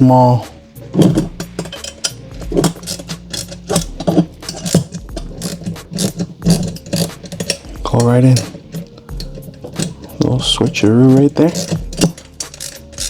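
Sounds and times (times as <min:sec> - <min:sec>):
hand ratchet clicking: 0:00.7 - 0:13.0.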